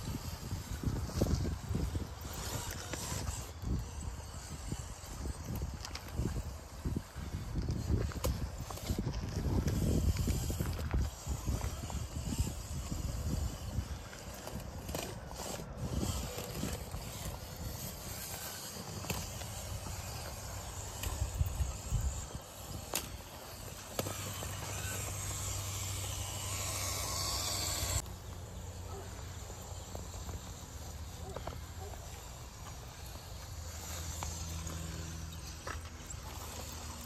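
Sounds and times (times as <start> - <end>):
steady outdoor hiss: 0.0 - 37.0
tyres and chassis scraping on stone: 0.0 - 37.0.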